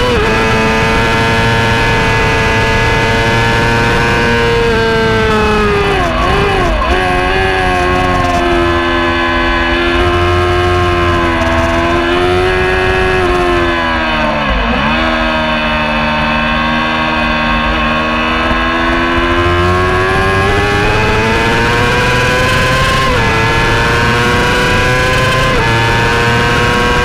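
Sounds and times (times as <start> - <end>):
motorcycle engine at high revs: 0.0 - 27.0.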